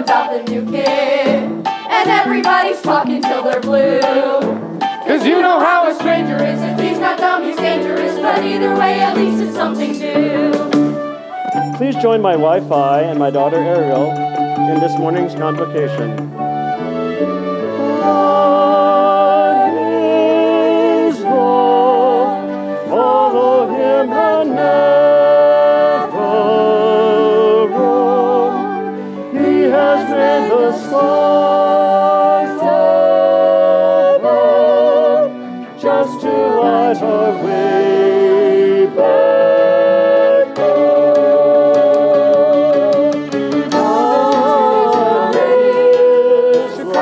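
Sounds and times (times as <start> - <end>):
women singing hymn-like song: 0.0 - 4.6, 5.3 - 10.9, 17.8 - 42.9, 43.7 - 47.0
musical accompaniment: 0.0 - 47.0.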